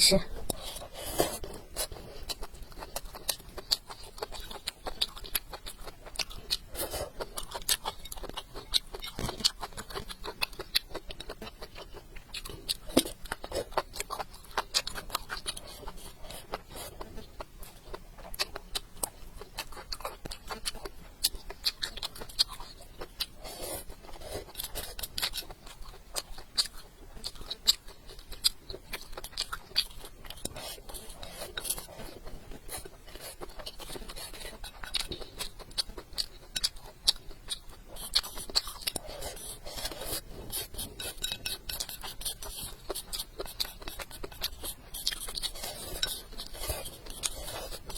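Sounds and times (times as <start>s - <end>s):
person chewing: 0.1s - 47.9s.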